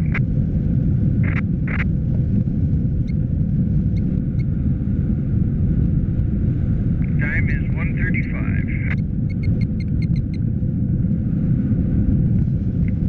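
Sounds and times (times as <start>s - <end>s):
airflow buffeting microphone: 0.0s - 13.0s.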